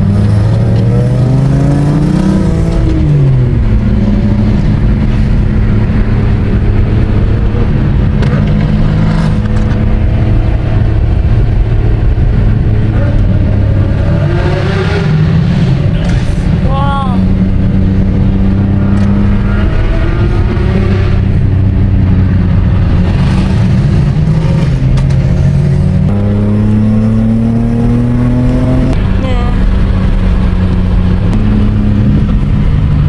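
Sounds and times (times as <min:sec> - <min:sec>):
race car engine at high revs: 0:00.0 - 0:33.0.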